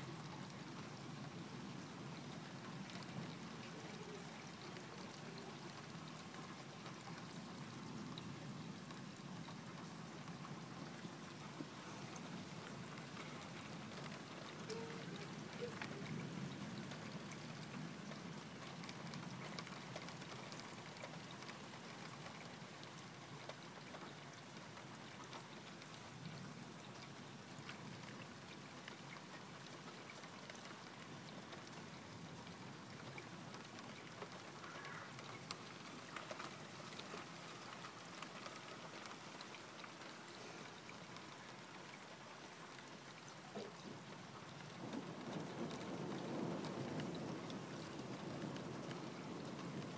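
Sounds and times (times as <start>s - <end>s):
raindrops ticking on a surface: 0.0s - 49.9s
steady rainfall: 0.0s - 49.9s.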